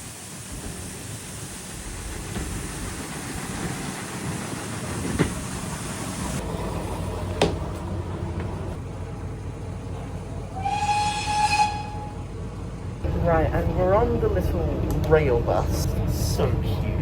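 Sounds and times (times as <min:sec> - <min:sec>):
train rushing: 0:00.0 - 0:17.0.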